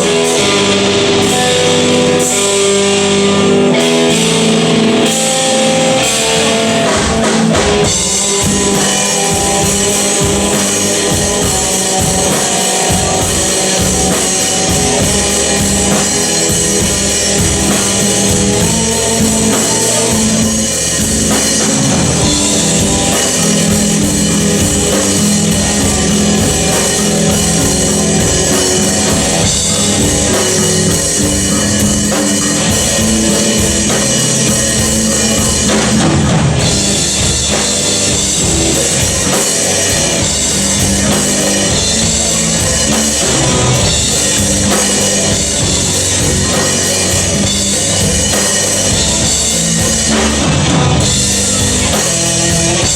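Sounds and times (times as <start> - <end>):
drum kit steady beat: 0.0 - 52.9
rock band playing live: 0.0 - 52.9.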